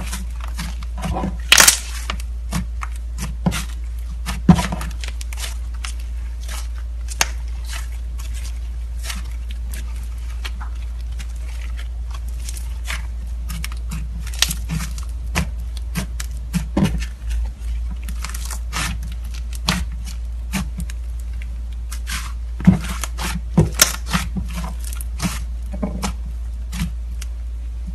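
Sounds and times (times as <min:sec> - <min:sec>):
slime kneaded by hand: 0:00.0 - 0:27.9
steady low hum: 0:00.0 - 0:27.9.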